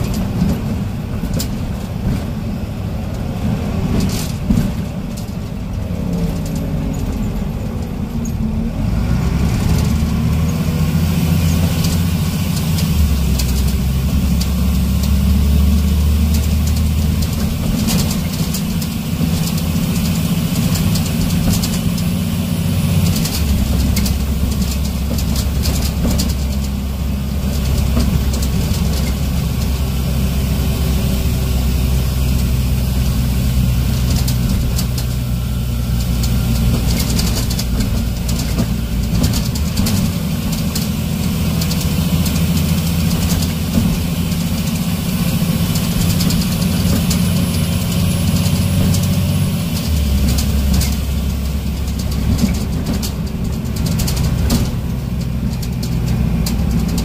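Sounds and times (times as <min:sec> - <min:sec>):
bus engine drone: 0:00.0 - 0:57.0
rattles from bus body: 0:00.0 - 0:57.0
road noise: 0:00.0 - 0:57.0.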